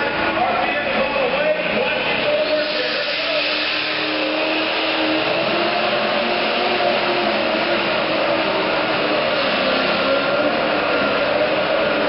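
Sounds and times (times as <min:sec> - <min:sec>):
diesel engine running hard: 0:00.0 - 0:12.0.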